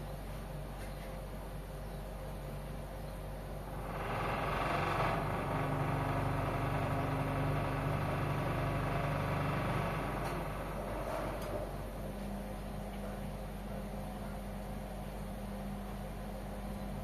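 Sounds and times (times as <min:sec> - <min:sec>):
washing machine hum with hiss: 0:00.0 - 0:17.0.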